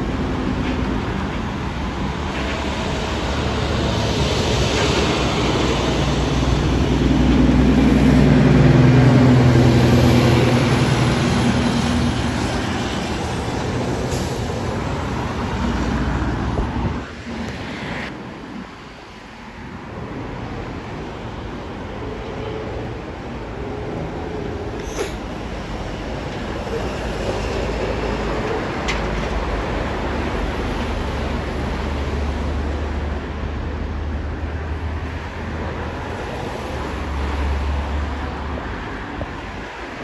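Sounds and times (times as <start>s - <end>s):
aircraft engines passing by: 0.0s - 40.0s.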